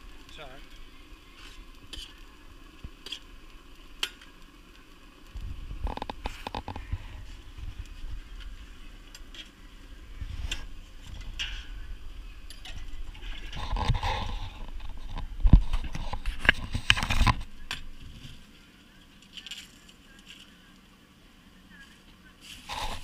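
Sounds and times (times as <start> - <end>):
low handling rumble: 0.0 - 18.5.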